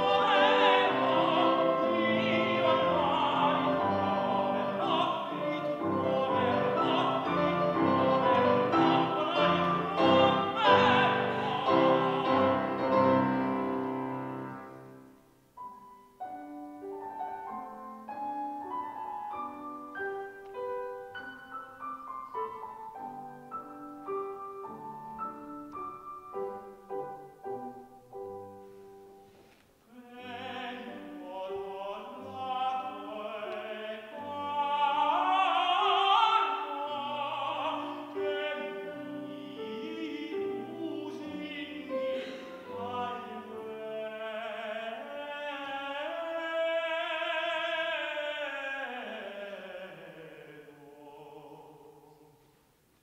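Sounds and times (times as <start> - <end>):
tenor singing operatic aria: 0.0 - 52.6
grand piano: 0.0 - 53.0.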